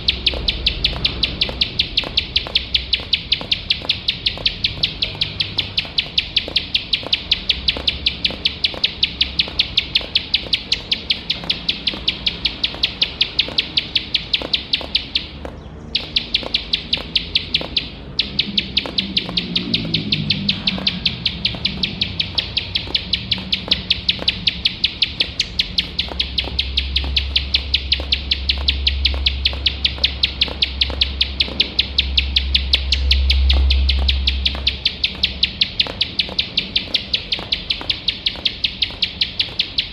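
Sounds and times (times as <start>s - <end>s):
bird singing high ticking notes: 0.0s - 39.9s.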